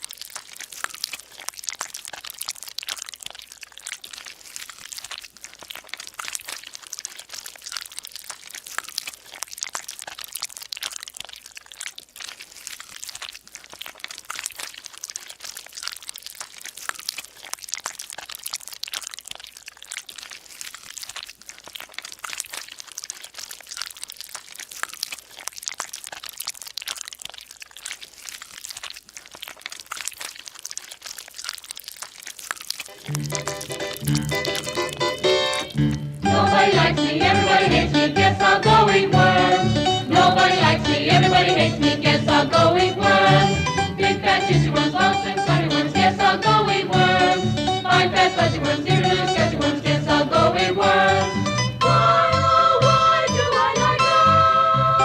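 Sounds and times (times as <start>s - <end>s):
dense continuous crackling: 0.0s - 51.8s.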